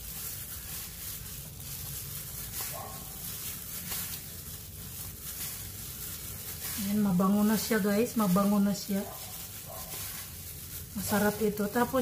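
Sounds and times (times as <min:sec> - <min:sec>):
noodles squelching in a bowl: 0:00.0 - 0:12.0.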